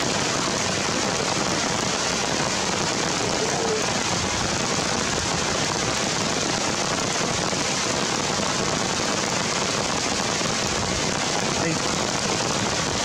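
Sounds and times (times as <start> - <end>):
rain falling on trees: 0.0 - 13.0.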